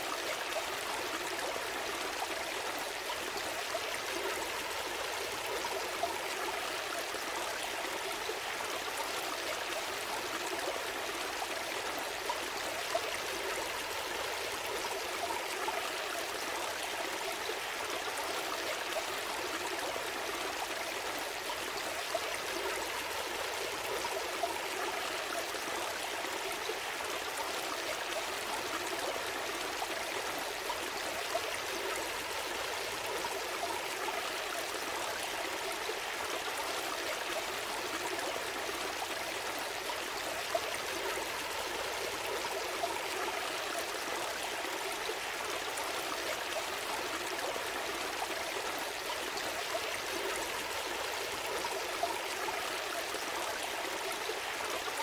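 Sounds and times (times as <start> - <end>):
stream babbling: 0.0 - 55.0
water splashes and trickles: 0.0 - 55.0.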